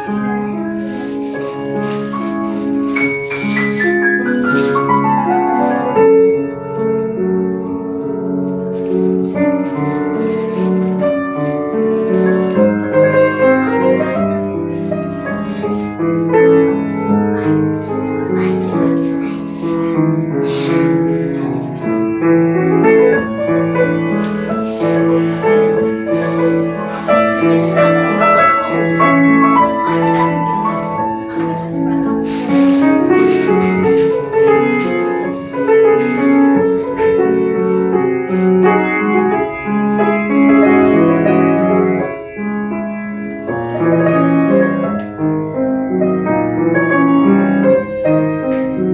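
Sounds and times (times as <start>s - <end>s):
grand piano playing: 0.0s - 48.9s.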